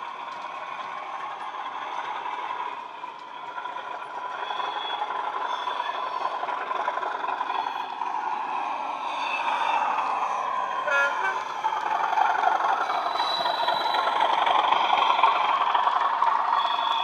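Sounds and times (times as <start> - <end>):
model train diesel engine sound: 0.0 - 17.0.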